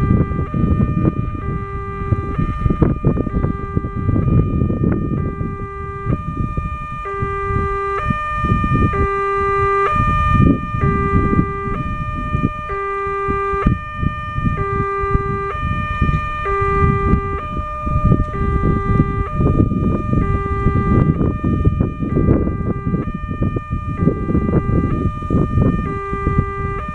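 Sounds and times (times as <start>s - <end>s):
electronic crossing warning bell: 0.0s - 26.9s.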